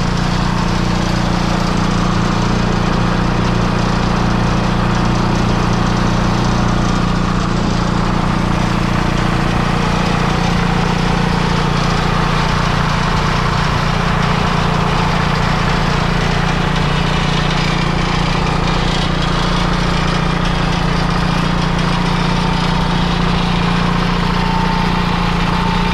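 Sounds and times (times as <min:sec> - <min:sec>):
diesel engine idling: 0:00.0 - 0:25.9.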